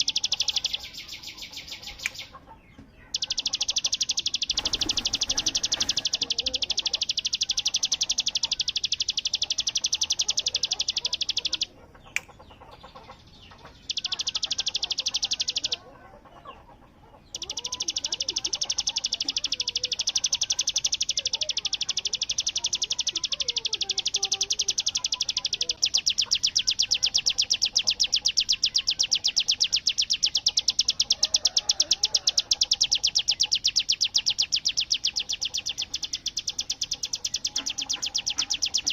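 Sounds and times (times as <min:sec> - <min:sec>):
bird singing rapid trill: 0:00.0 - 0:38.9.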